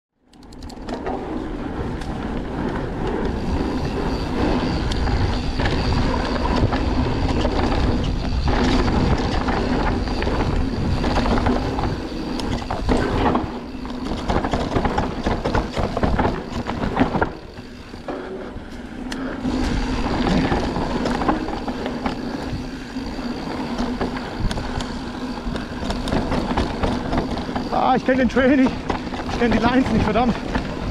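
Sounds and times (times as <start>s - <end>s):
bike rattling and knocking: 0.3s - 30.9s
tyres rumbling on dirt: 0.8s - 30.9s.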